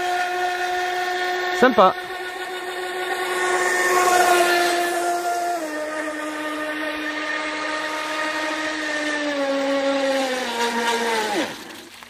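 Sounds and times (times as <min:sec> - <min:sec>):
electric motor high-pitched whine: 0:00.0 - 0:12.0.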